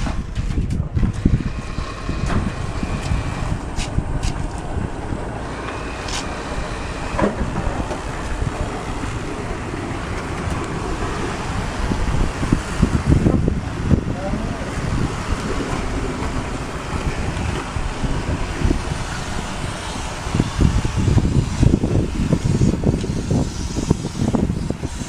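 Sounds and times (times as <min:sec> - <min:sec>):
moving vehicle rumble: 0:00.0 - 0:25.0
wind noise on microphone: 0:00.0 - 0:25.0.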